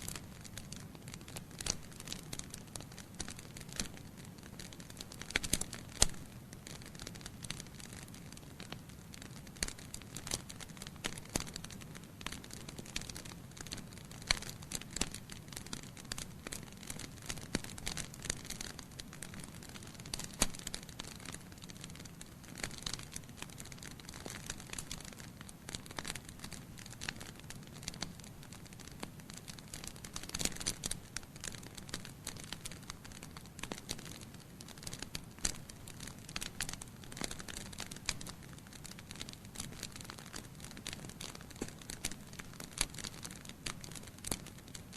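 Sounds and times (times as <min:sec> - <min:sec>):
low rumble of flames: 0:00.0 - 0:44.8
wood fire crackling and popping: 0:00.0 - 0:44.9.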